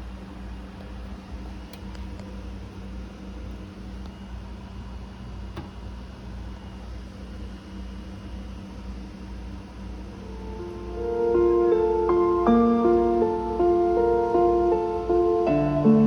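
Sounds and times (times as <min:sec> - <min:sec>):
low hum and hiss: 0:00.0 - 0:16.0.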